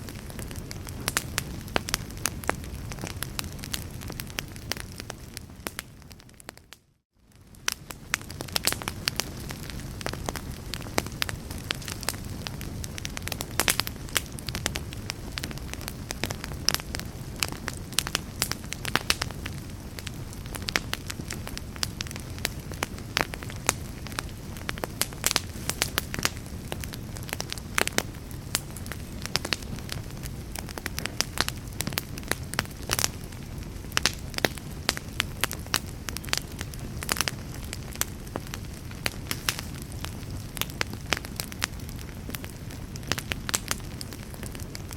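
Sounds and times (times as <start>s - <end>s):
logs crackling and popping: 0.0s - 44.9s
low rumble of flames: 0.0s - 44.9s.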